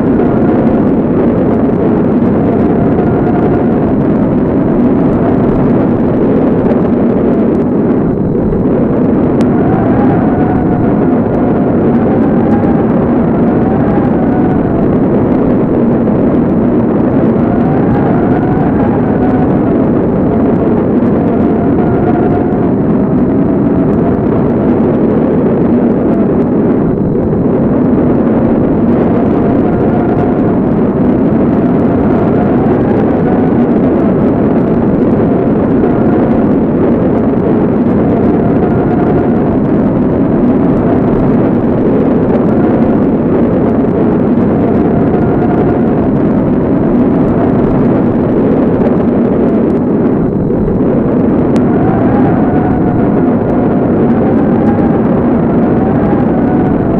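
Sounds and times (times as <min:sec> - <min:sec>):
faint wavering wind howl: 0:00.0 - 0:56.9
rushing wind rumble: 0:00.0 - 0:56.9.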